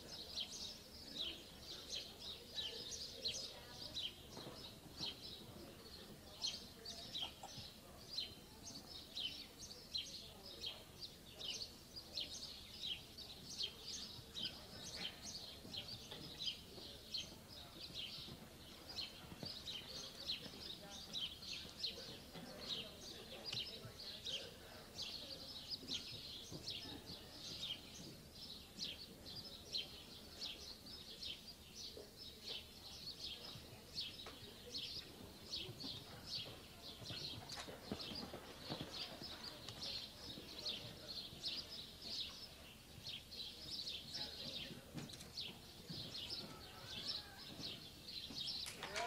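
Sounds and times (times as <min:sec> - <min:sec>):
faint background voices: 0:00.0 - 0:49.0
small birds chirping: 0:00.0 - 0:49.0.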